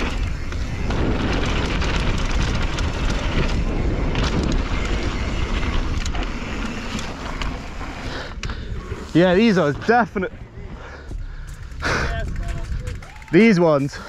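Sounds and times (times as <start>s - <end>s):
wind on microphone: 0.0s - 13.3s
bike clicks and rattles: 0.0s - 14.0s.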